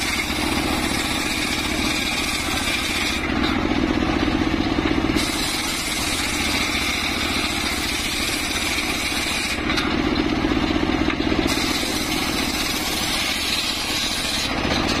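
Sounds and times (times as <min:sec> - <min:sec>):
saw blade ripping planks: 0:00.0 - 0:04.0, 0:04.9 - 0:15.0
saw bench engine pulsing: 0:00.0 - 0:15.0.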